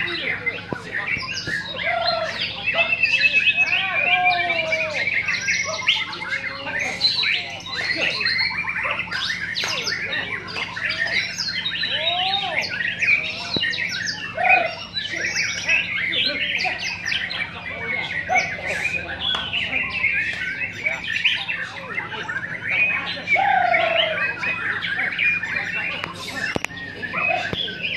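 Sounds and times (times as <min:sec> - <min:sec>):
songbirds whistling and chirping: 0:00.0 - 0:27.9.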